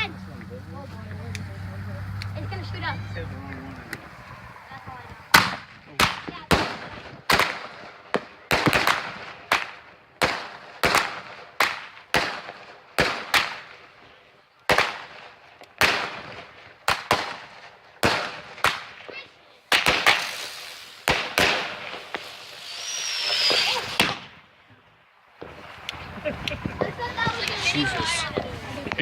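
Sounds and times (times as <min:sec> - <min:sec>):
fireworks bangs with hiss: 0:04.0 - 0:24.8, 0:25.4 - 0:29.0.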